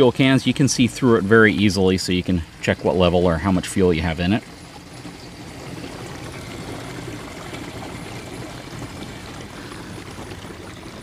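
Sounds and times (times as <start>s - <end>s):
gasoline pouring into can: 0.0s - 11.0s.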